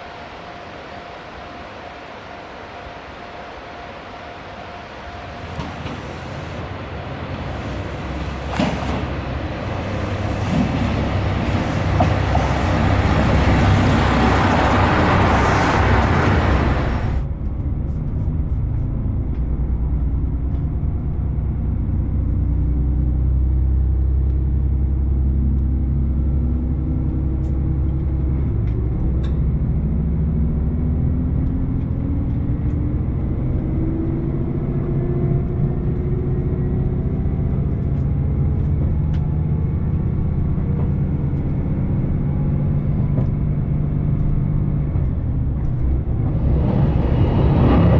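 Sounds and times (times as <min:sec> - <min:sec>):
rushing rail and wind noise: 0:00.0 - 0:47.9
train engine drone: 0:00.0 - 0:47.9.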